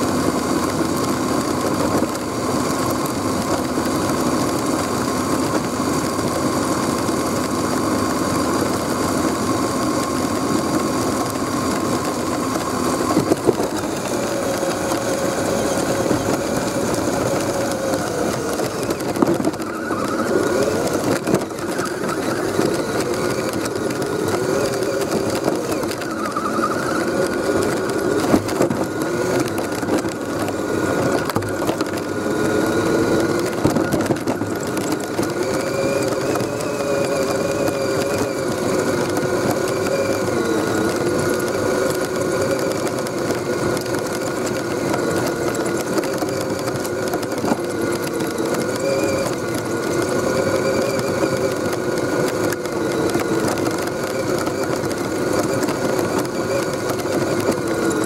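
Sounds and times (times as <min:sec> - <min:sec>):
electric motor and gears whining: 0:00.0 - 0:58.0
toy truck moving over ground: 0:00.0 - 0:58.0.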